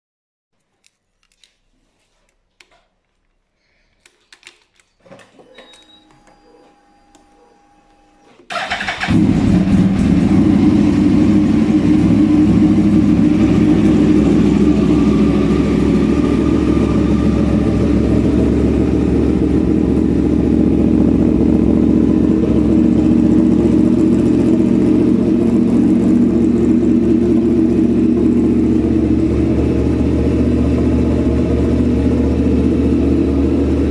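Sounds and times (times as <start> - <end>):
motorcycle engine starting and idling: 5.0 - 33.9.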